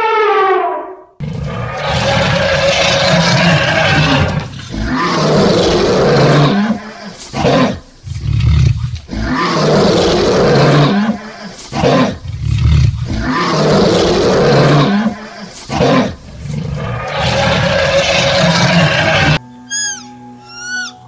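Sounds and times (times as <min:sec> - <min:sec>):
lion grunting: 0:01.2 - 0:19.4
lion roaring: 0:01.2 - 0:19.4.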